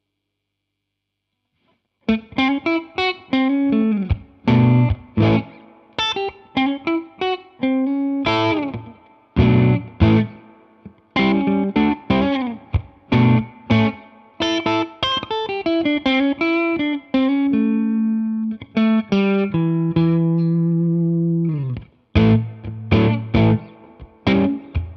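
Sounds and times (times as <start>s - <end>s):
electric guitar with drive: 2.1s - 7.2s, 7.9s - 24.9s.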